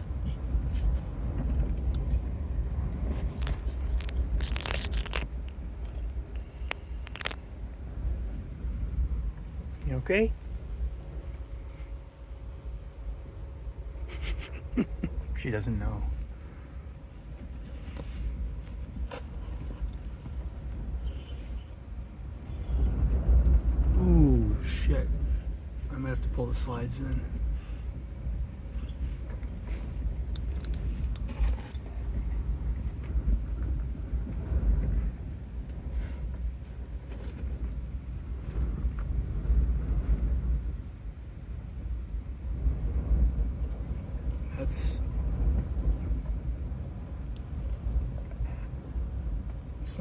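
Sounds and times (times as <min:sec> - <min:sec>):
storm wind gusting on microphone: 0:00.0 - 0:50.0.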